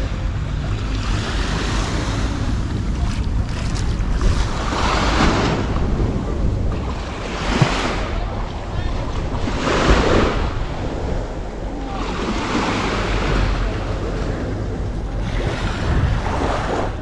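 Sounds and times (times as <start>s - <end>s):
small waves washing on beach: 0.0s - 17.0s
wind rumble on microphone: 0.0s - 17.0s.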